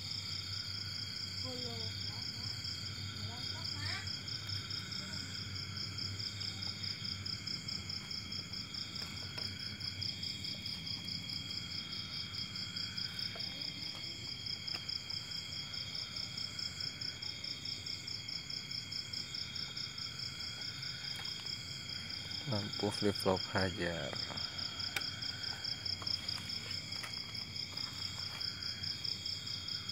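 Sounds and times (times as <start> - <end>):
crickets chirping: 0.0 - 29.9
low insect call: 0.0 - 29.9.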